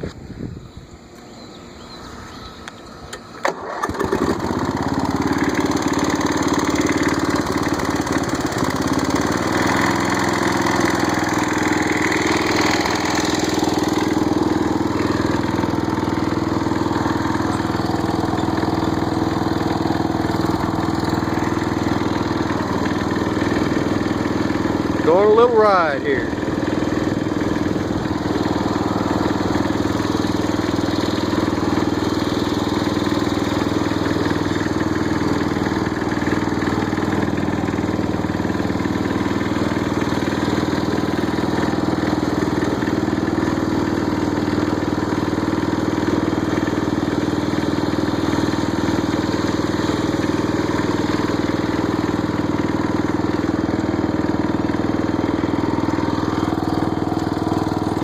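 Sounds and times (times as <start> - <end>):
riding mower engine droning: 0.0 - 58.0.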